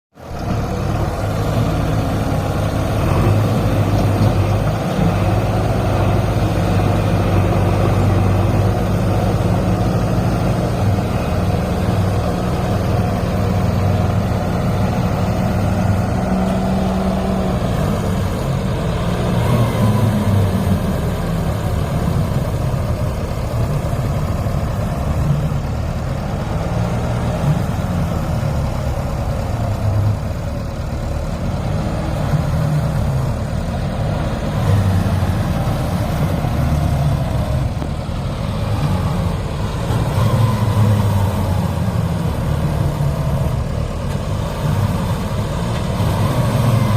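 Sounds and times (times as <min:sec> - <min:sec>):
diesel engine running: 0:00.2 - 0:46.9.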